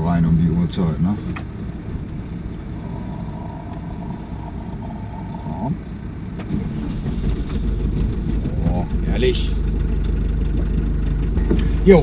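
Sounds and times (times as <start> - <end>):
faint steady whine: 0.0 - 12.0
van engine idling: 0.0 - 12.0.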